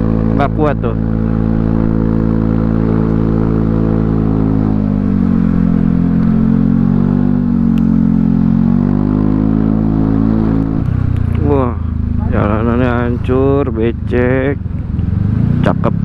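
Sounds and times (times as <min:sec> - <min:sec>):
scooter engine climbing uphill: 0:00.0 - 0:16.0.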